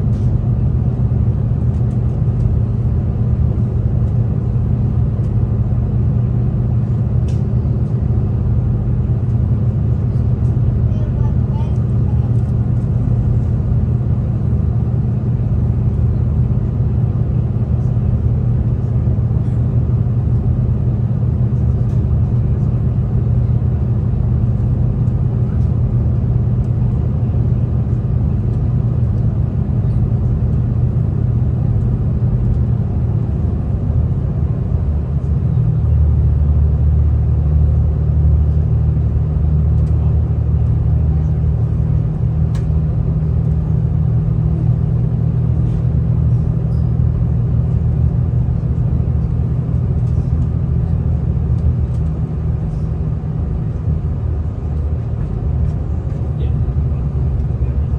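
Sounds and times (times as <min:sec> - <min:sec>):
diesel train rumbling on track: 0:00.0 - 0:57.9.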